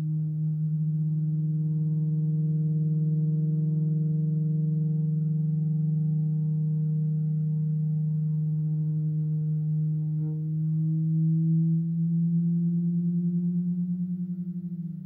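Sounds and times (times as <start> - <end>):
electronic feedback string drone: 0.0 - 15.0.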